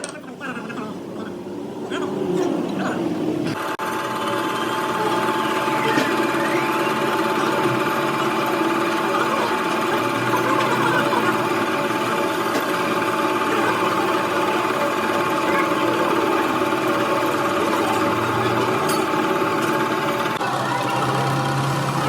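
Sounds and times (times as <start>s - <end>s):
machine whirring: 2.6s - 22.0s.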